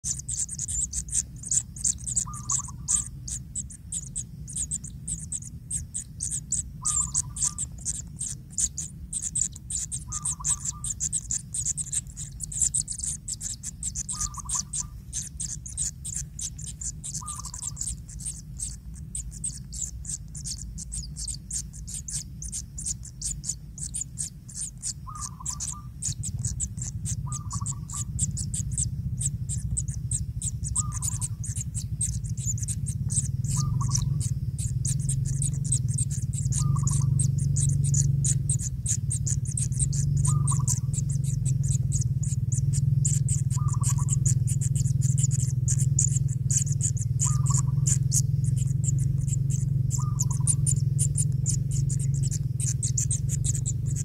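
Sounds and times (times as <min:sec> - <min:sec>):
nestlings high-pitched ticking: 0:00.0 - 0:54.0.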